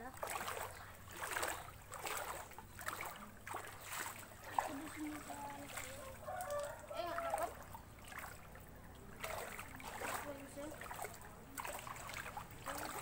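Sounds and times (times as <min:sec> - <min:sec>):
feet wading through water: 0:00.0 - 0:13.0.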